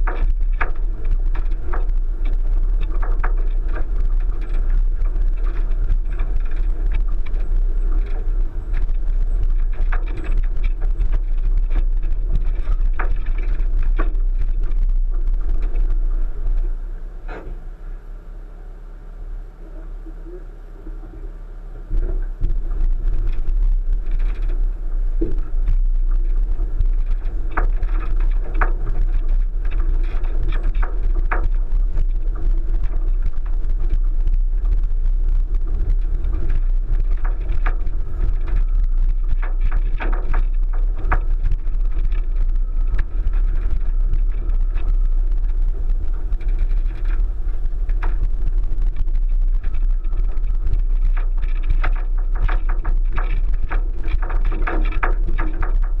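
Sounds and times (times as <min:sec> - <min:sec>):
car rumble on dirt track: 0:00.0 - 0:20.1, 0:20.9 - 0:56.0.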